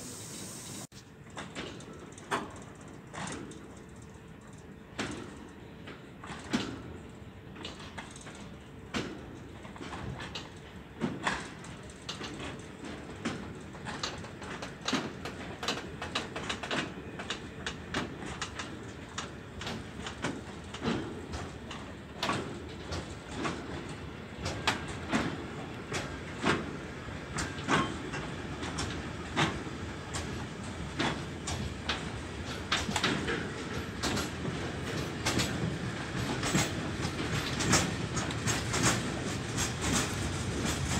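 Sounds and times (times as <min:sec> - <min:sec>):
wheels clacking over rail joints: 0:07.6 - 0:40.9.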